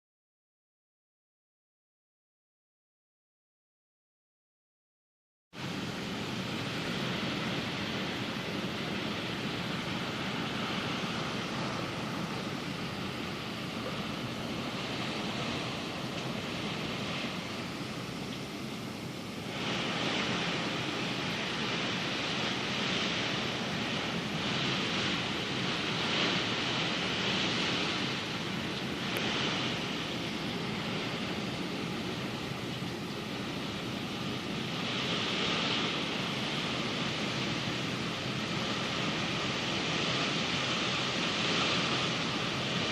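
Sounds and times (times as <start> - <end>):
gusting wind: 5.5 - 42.9
driving rain: 5.6 - 42.9.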